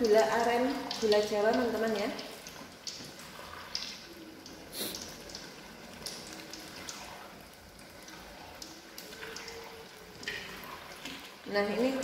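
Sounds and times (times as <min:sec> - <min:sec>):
sauce bubbling: 0:00.0 - 0:12.0.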